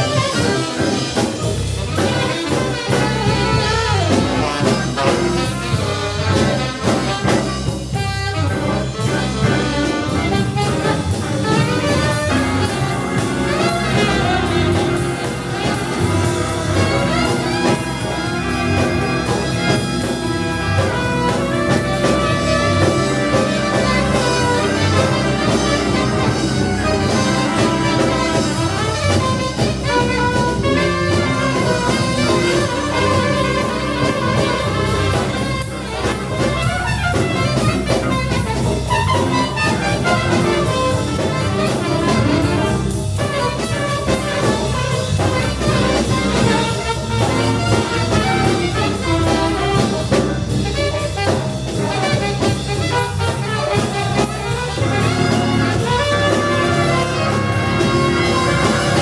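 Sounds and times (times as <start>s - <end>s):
live jazz band playing: 0.0s - 59.0s.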